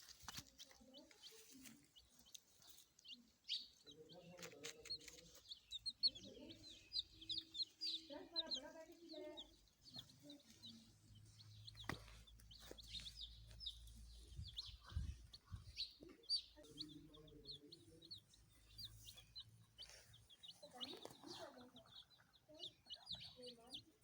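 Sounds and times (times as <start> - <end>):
baby chicks peeping: 0.0 - 24.0.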